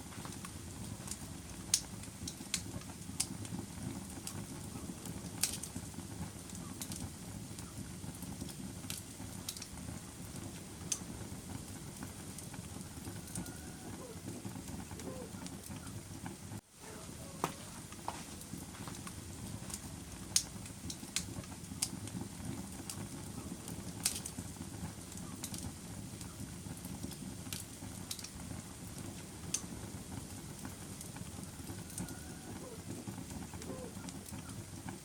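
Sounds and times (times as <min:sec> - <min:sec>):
fire crackles and pops: 0:00.0 - 0:35.0
fire flames rumbling: 0:00.0 - 0:35.0.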